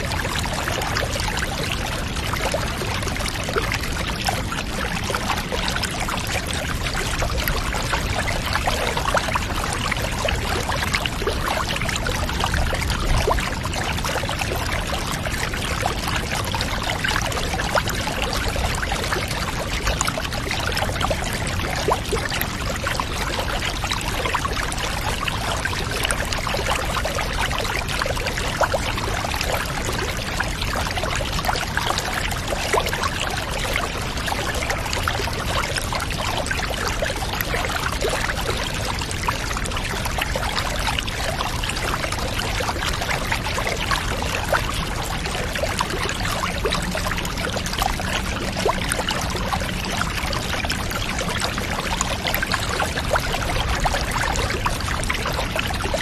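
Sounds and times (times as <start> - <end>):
water pouring and trickling: 0.0 - 56.0.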